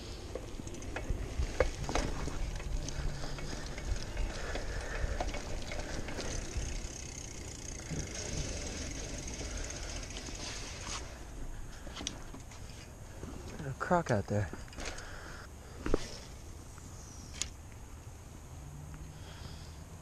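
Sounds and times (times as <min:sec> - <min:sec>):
bicycle rattles and clicks: 0:00.0 - 0:16.3
bicycle tyre noise: 0:00.0 - 0:17.6.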